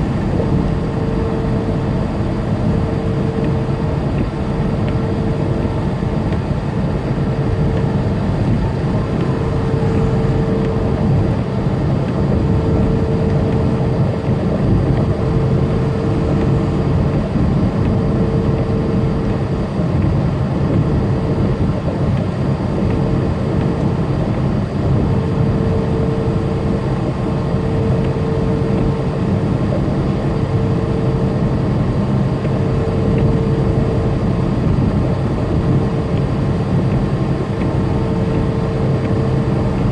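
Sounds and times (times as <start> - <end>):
diesel engine running: 0.0 - 39.9
mid-pitched hum: 0.0 - 39.9
road noise: 0.0 - 39.9.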